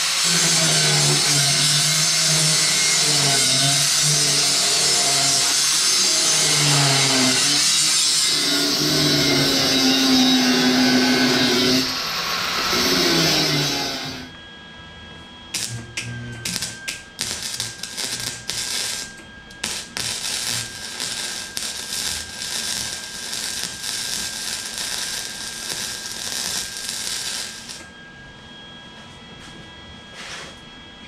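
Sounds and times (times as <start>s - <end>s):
arc welder crackling: 0.0s - 14.3s, 15.5s - 27.9s.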